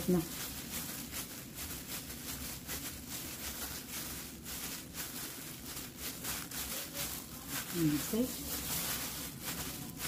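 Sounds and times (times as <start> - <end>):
plastic gloves crinkling: 0.0 - 10.0.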